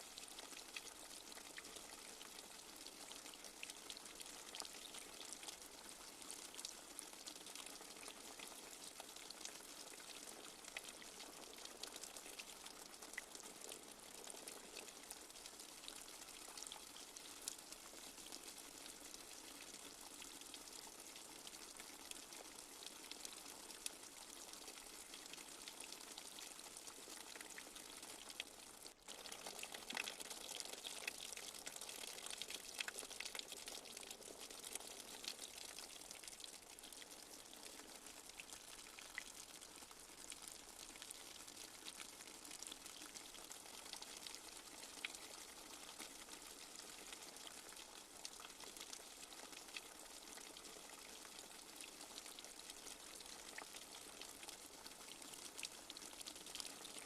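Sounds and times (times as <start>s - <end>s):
light rain dripping: 0.0s - 57.0s.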